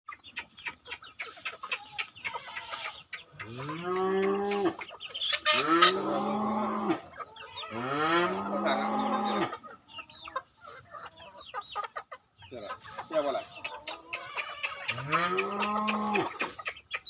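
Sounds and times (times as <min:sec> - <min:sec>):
animal clucking: 0:00.1 - 0:17.0.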